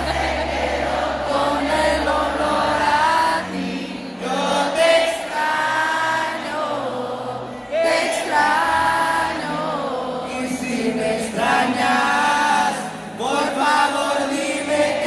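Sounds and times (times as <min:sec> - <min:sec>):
crowd singing along: 0:00.0 - 0:15.0.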